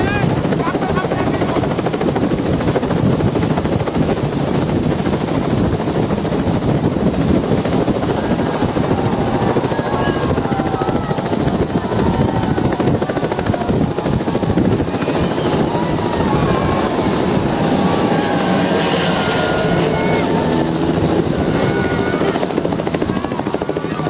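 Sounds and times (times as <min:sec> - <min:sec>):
helicopter rotor and engine: 0:00.0 - 0:24.0.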